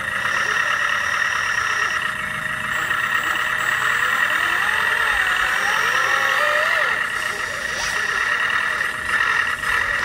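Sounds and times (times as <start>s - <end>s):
high steady tone: 0.0s - 10.0s
toy truck motors whining: 0.0s - 10.0s.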